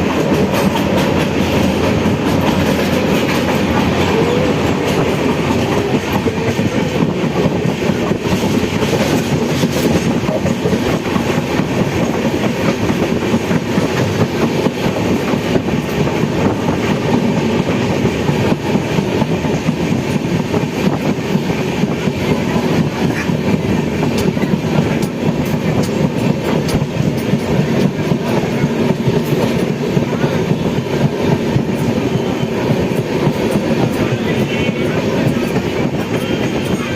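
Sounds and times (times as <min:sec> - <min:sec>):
train rumbling on rails: 0:00.0 - 0:36.9
wheels clattering on track: 0:00.0 - 0:36.9.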